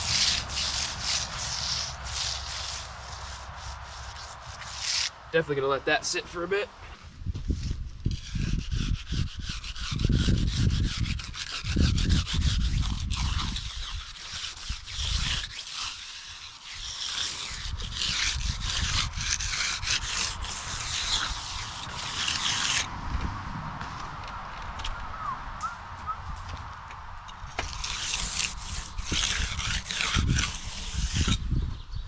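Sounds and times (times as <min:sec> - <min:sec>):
tool scraping concrete: 0:00.0 - 0:22.9, 0:27.3 - 0:31.6.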